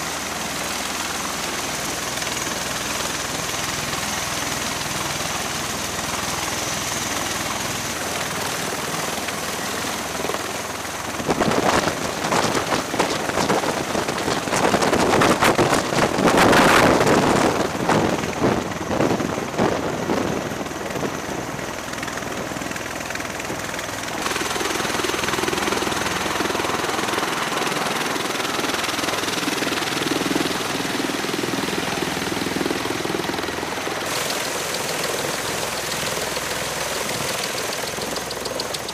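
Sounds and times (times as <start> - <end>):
tiltrotor aircraft engines and rotors: 0.0 - 38.9.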